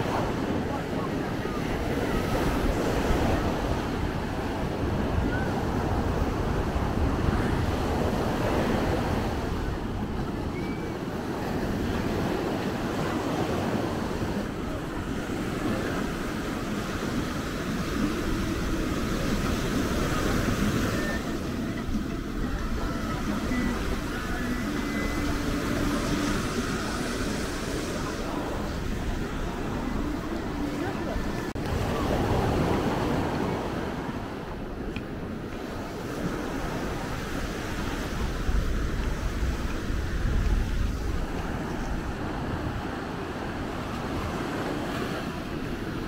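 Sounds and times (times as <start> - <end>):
ocean surf washing: 0.0 - 46.0
wind rumbling on microphone: 0.0 - 46.0.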